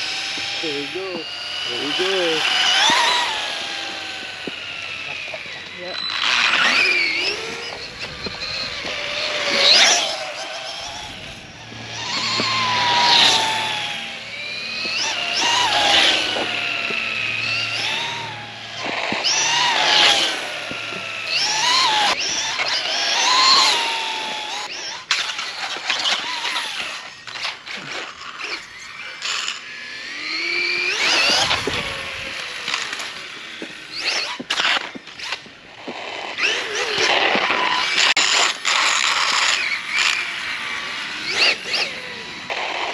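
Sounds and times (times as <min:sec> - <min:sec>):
electric motor whining: 0:00.0 - 0:42.9.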